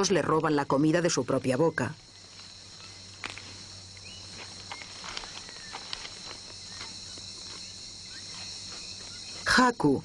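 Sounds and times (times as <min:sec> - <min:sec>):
insect chorus: 0:00.0 - 0:10.0.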